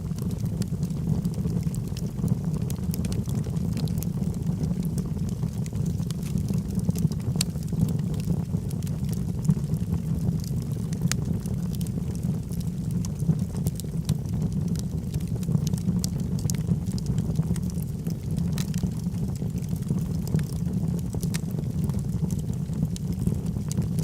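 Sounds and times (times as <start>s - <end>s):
flames rumbling: 0.0s - 24.0s
wood crackling and popping: 0.0s - 24.0s.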